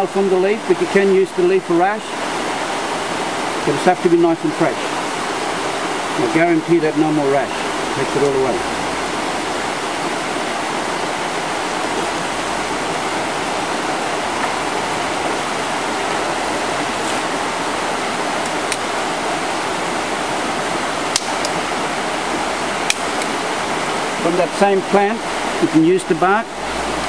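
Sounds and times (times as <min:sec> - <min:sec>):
creek water rushing over rocks: 0:00.0 - 0:27.0.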